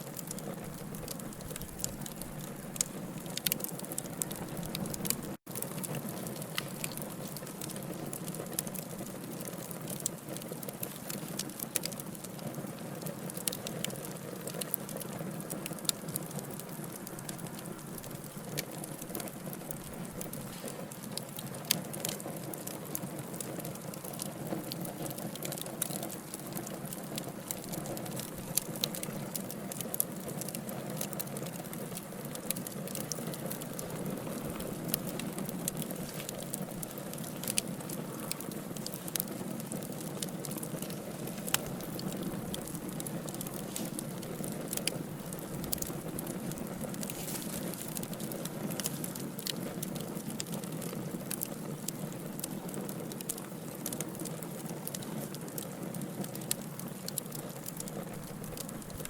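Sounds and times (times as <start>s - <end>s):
burning logs crackling: 0.0s - 59.0s.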